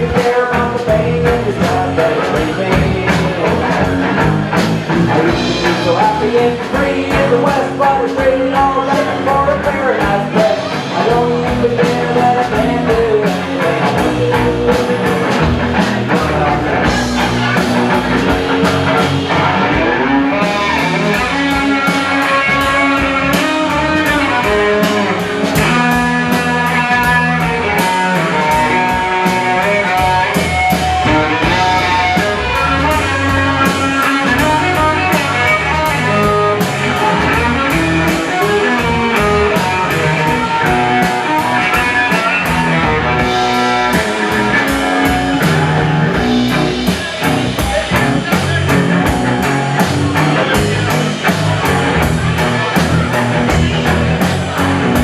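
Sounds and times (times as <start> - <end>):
rock blues guitar: 0.0 - 55.0
steady drum beat: 0.0 - 55.0.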